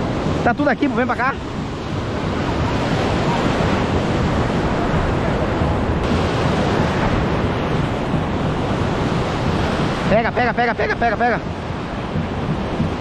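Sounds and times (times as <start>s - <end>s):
surf breaking over rocks: 0.0s - 13.0s
wind buffeting microphone: 0.0s - 13.0s.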